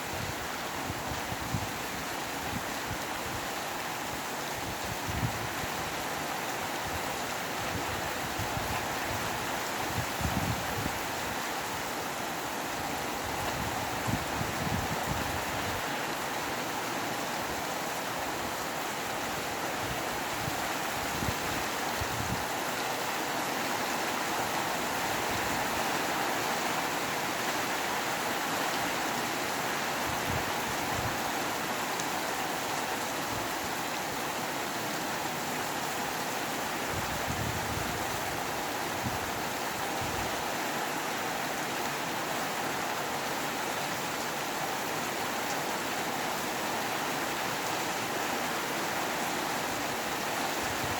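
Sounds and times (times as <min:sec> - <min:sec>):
steady rain with wind: 0:00.0 - 0:50.9.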